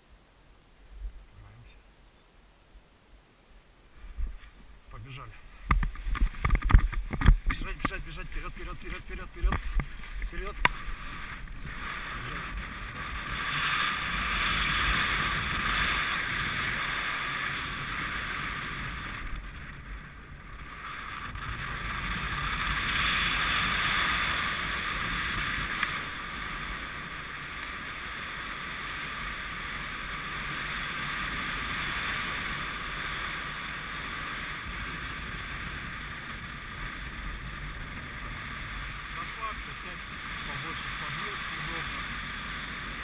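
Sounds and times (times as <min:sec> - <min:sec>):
wind rushing over microphone: 0:04.0 - 0:43.0.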